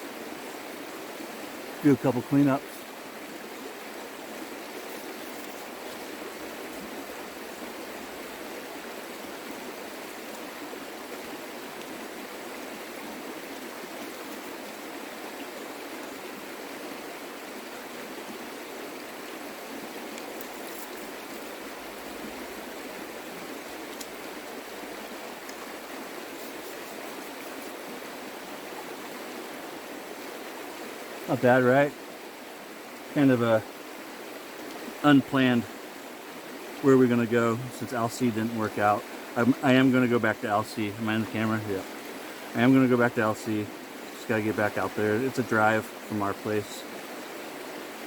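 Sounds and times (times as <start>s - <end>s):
creek water flowing: 0.0s - 48.0s.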